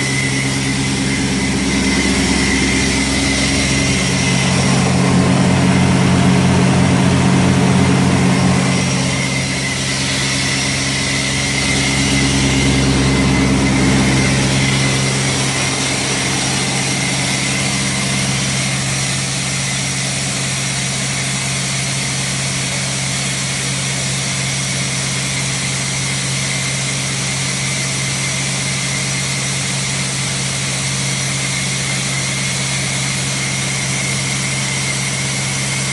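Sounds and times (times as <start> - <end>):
air compressor running: 0.0 - 35.9.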